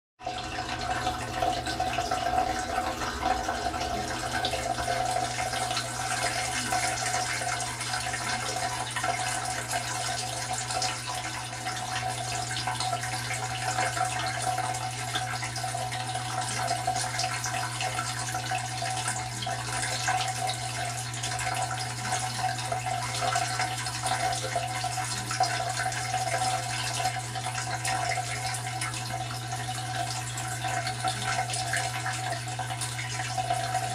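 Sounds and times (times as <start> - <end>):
low machine hum: 0.2 - 33.9
water running in dishwasher: 0.2 - 33.9.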